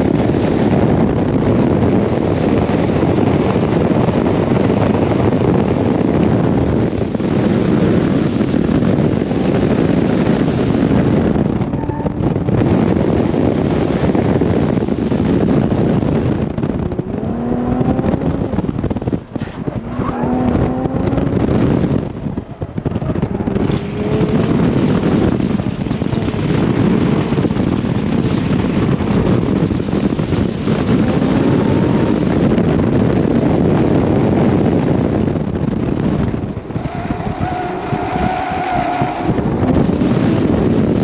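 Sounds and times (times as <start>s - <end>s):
car engine accelerating: 0.0s - 41.0s
wind rush and buffeting: 0.0s - 41.0s.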